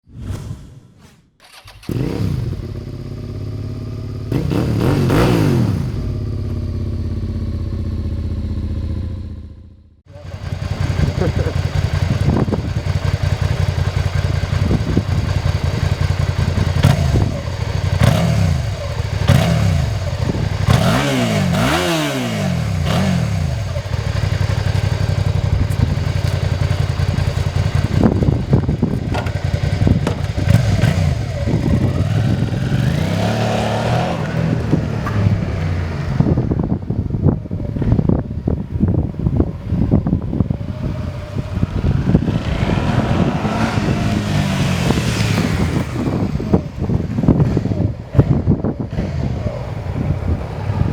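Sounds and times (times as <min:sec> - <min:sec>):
motorcycle engine idling and revving: 0:01.4 - 0:50.9.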